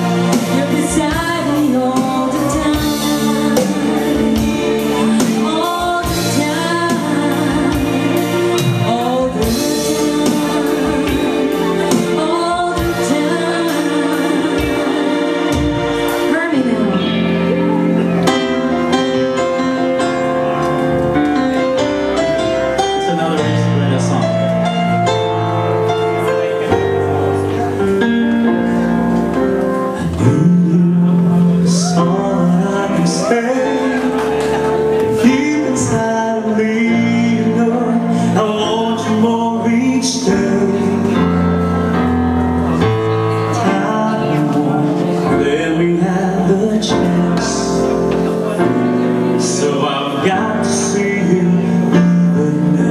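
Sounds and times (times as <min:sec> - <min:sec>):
live band music: 0:00.0 - 0:52.9.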